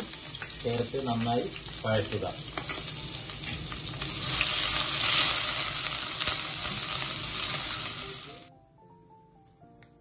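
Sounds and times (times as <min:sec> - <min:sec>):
food sizzling in hot oil: 0:00.0 - 0:08.5
faint music: 0:00.0 - 0:10.0.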